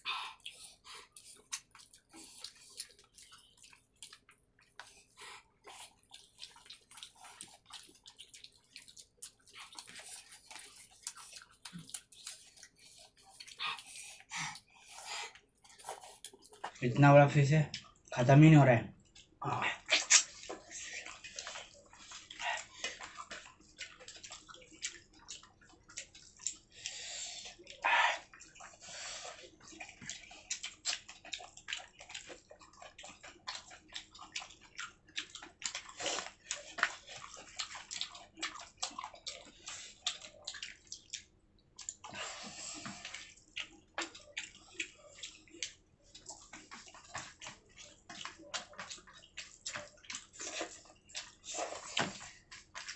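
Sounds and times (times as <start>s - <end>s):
wet chewing smacks and clicks: 0.0s - 52.9s.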